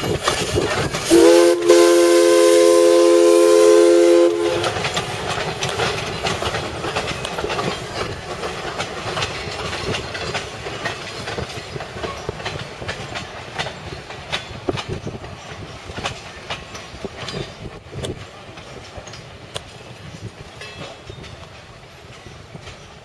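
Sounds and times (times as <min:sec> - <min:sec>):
train wheels clicking on rails: 0:00.0 - 0:23.0.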